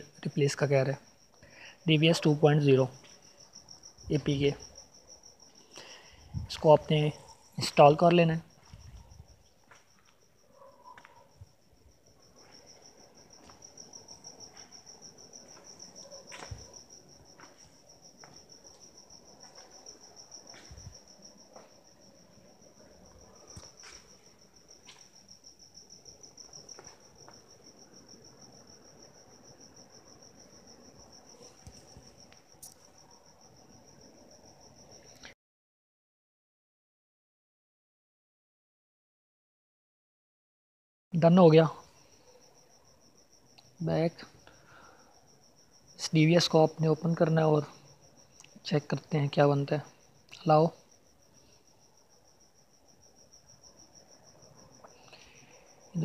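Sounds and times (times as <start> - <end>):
cricket trilling: 0.0 - 35.4, 41.2 - 56.0.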